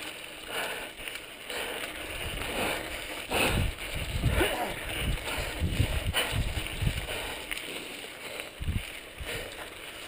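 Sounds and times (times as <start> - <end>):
bike clicks: 0.0 - 10.0
tyre and trail noise: 0.0 - 10.0
wind buffeting microphone: 1.5 - 9.8.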